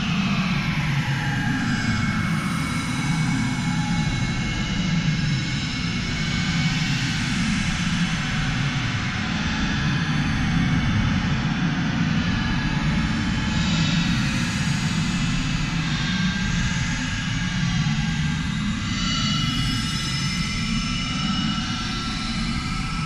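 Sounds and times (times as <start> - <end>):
dark ambient music drone: 0.0 - 23.0.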